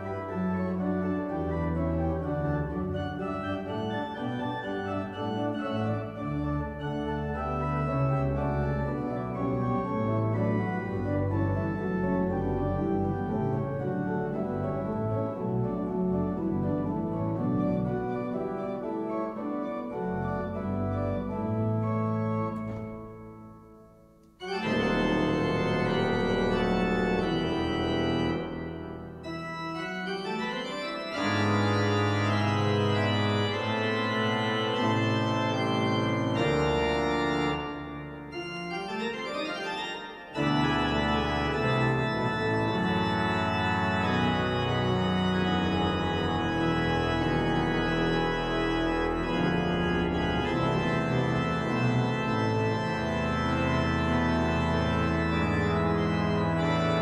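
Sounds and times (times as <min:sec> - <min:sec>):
pipe organ chords: 0:00.0 - 0:57.0.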